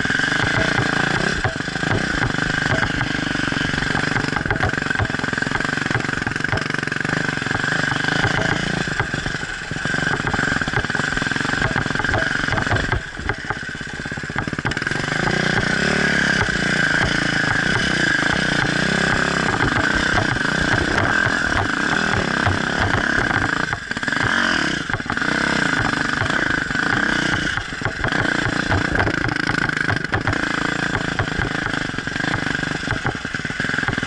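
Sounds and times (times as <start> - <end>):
motorcycle engine rattling: 0.0 - 34.0.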